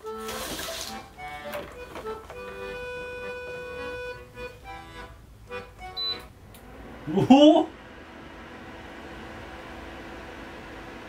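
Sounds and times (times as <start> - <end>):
accordion music: 0.0 - 9.4.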